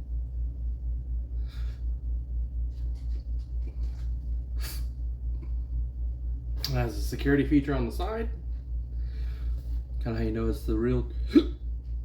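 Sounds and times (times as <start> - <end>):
low pulsing hum: 0.0 - 12.0.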